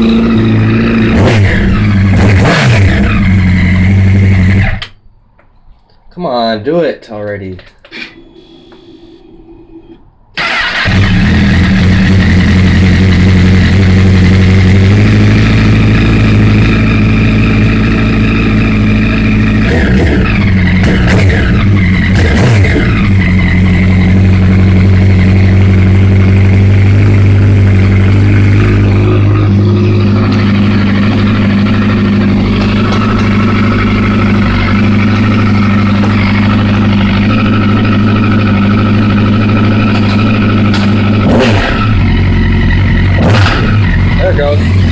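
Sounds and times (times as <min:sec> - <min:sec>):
motorcycle engine idling and revving: 0:00.0 - 0:05.0, 0:10.4 - 0:44.9.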